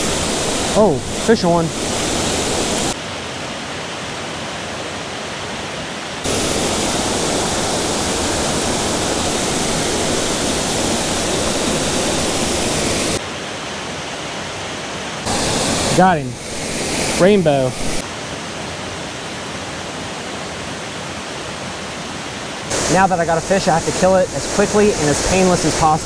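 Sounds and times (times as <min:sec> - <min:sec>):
small waterfall rushing: 0:00.0 - 0:26.0.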